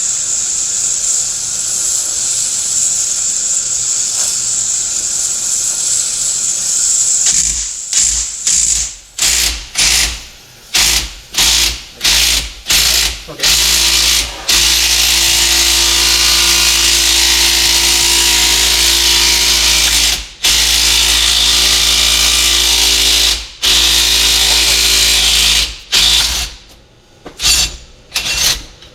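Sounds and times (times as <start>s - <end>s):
power tool motor: 0.0s - 10.2s, 10.8s - 26.6s, 27.4s - 28.8s.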